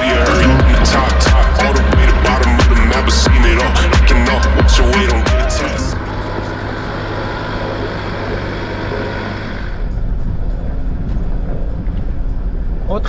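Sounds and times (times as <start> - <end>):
rushing noise: 0.0 - 13.0
vehicle engine humming: 0.0 - 13.0.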